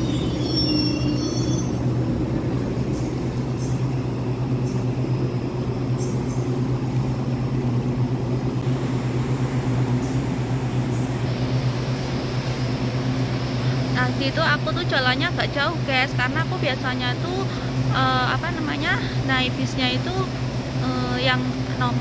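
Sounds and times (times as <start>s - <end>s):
train equipment low hum: 0.0s - 22.0s.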